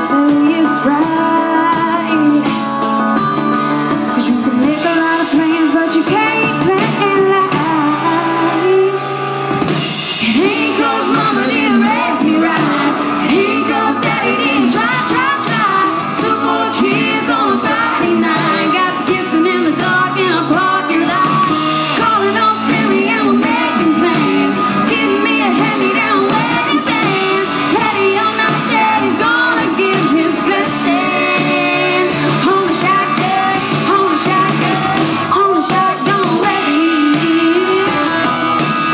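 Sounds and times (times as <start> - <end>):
woman singing into microphone: 0.0 - 2.9, 3.9 - 9.4, 10.2 - 38.9
electric guitar: 0.0 - 38.9
live band playing: 0.0 - 38.9.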